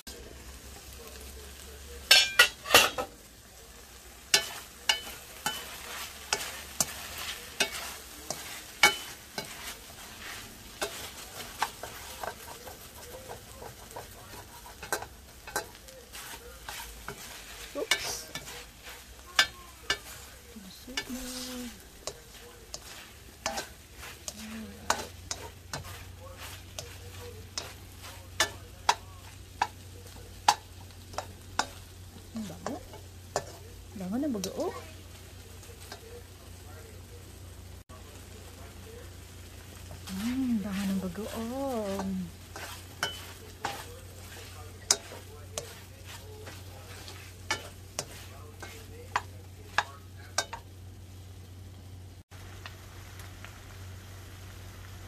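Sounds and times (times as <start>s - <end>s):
meat sizzling in a pan: 0.0s - 55.0s
spoon scraping and clacking on pan: 0.7s - 37.0s, 38.5s - 50.8s.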